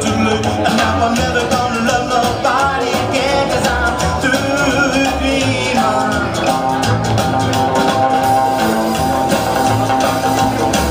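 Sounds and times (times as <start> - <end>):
band playing swing music: 0.0 - 10.9.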